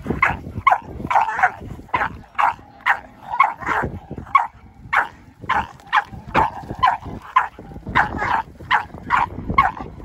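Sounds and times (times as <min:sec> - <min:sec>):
dog barking: 0:00.2 - 0:09.9.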